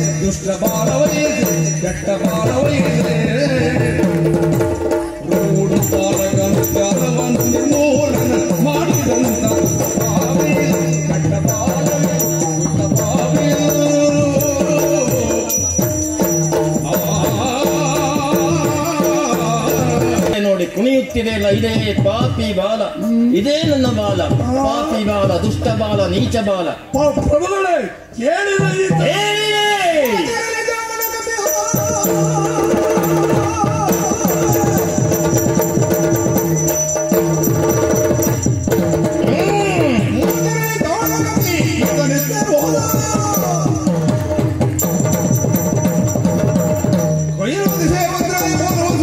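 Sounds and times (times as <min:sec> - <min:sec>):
jingling bells: 0:00.0 - 0:22.5, 0:30.0 - 0:49.0
fast drum strokes: 0:00.0 - 0:22.6, 0:31.4 - 0:49.0.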